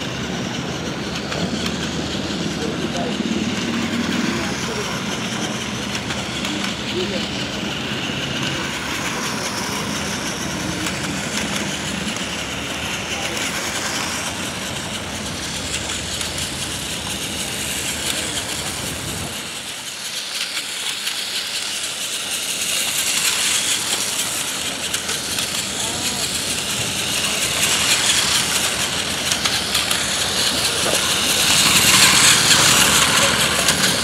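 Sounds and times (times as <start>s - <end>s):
outdoor background noise: 0.0s - 34.0s
toy train motor running: 0.0s - 34.0s
wheels rattling over track joints: 0.0s - 34.0s.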